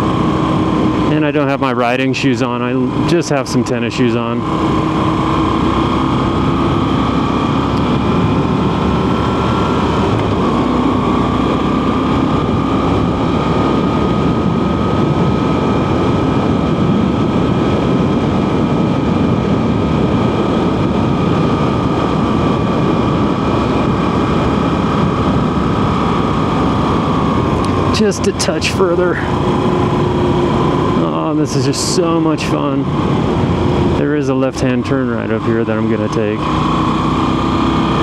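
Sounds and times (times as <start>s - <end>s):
motorcycle engine running: 0.0s - 38.0s
wind and road noise: 0.0s - 38.0s.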